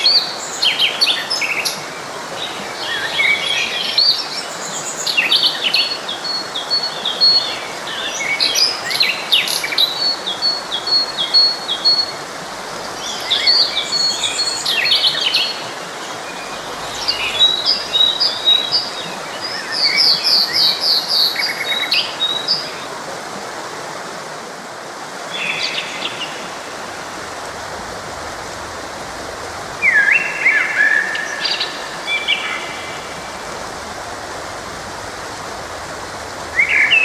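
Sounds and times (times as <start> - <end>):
songbirds singing and chirping: 0.0 - 23.0, 25.3 - 37.0
forest stream rushing: 0.0 - 37.0.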